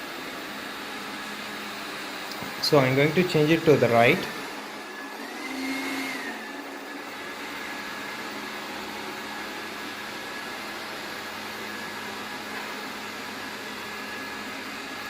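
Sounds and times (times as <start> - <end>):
robot vacuum cleaner whirring: 0.0 - 15.0.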